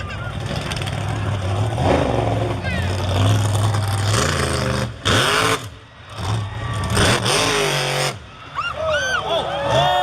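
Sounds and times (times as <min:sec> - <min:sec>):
monster truck engine revving: 0:00.0 - 0:08.4.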